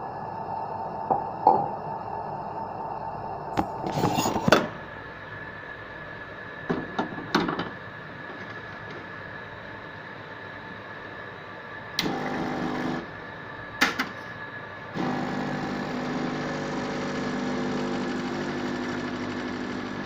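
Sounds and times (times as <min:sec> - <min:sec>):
steady hum with held tone: 0:00.0 - 0:20.0.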